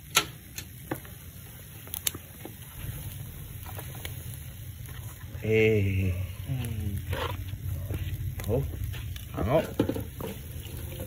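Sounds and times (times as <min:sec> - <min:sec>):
grill crackles and clicks: 0:00.0 - 0:11.0
steady low rumble: 0:01.2 - 0:11.0.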